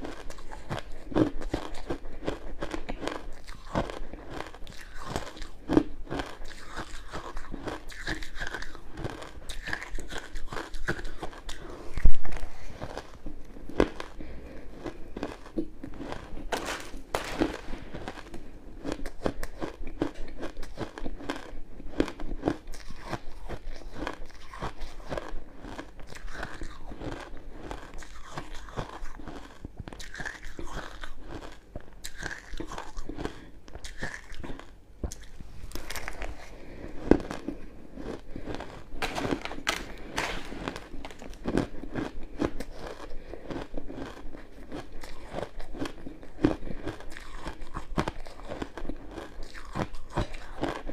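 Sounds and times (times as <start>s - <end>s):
crushed ice being chewed: 0.0s - 50.9s.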